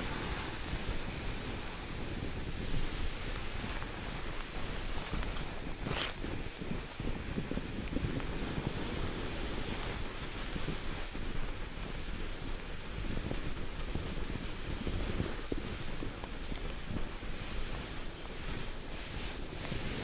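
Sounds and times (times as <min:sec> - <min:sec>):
skis sliding on snow: 0:00.0 - 0:20.0
wind buffeting microphone: 0:00.0 - 0:20.0.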